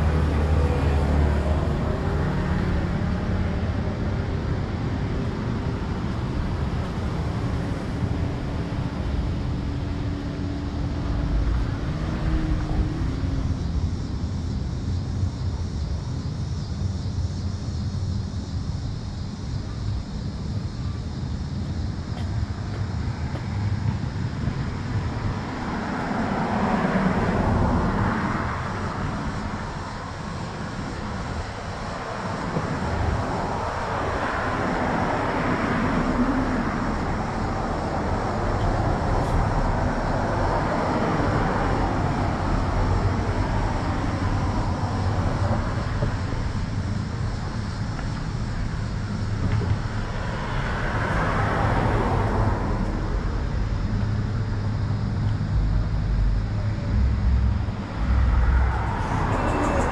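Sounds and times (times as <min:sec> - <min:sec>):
low traffic rumble: 0:00.0 - 0:59.9
vehicles passing: 0:00.0 - 0:59.9.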